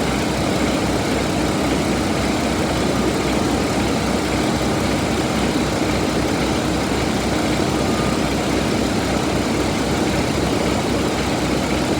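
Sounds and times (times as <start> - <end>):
diesel engine idling: 0.1 - 11.9.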